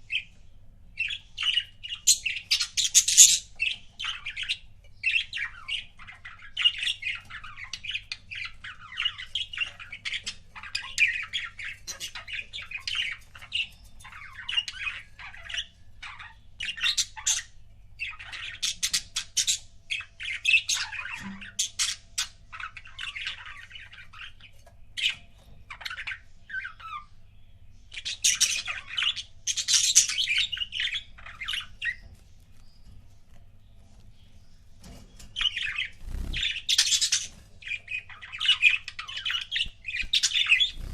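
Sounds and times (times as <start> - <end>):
budgerigars chattering and squawking: 1.0 - 27.2, 27.8 - 32.9, 34.2 - 40.9.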